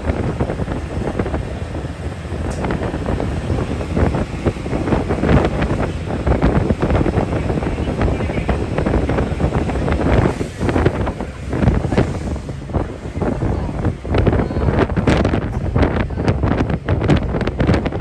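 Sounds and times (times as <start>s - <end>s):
boat wake rushing: 0.0s - 18.0s
choppy waves: 0.0s - 18.0s
wind buffeting microphone: 0.0s - 18.0s.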